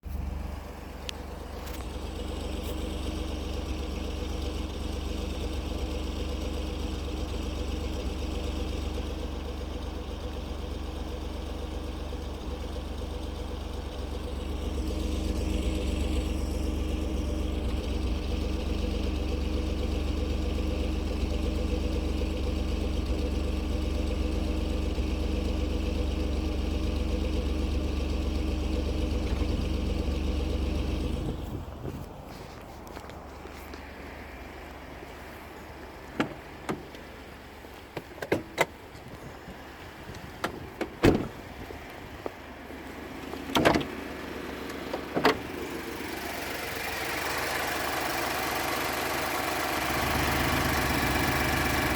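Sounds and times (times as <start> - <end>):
truck engine idling roughly: 0.0 - 37.9, 44.2 - 51.9.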